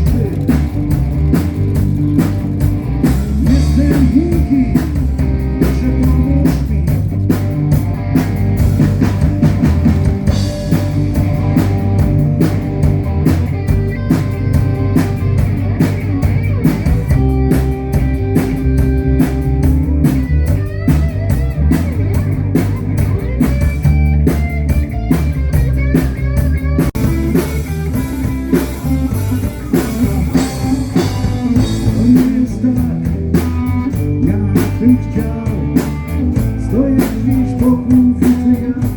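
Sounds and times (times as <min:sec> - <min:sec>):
bass guitar: 0:00.0 - 0:38.9
drum kit steady beat: 0:00.0 - 0:38.9
electric guitar bending lines: 0:00.0 - 0:38.9.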